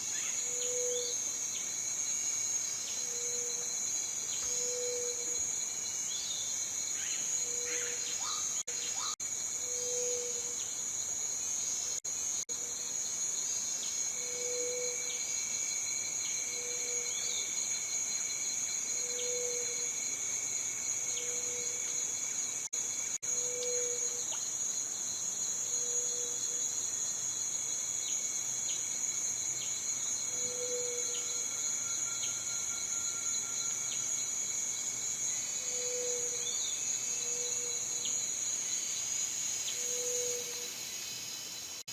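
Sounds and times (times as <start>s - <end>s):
cicadas buzzing: 0.0s - 12.4s, 13.2s - 41.9s.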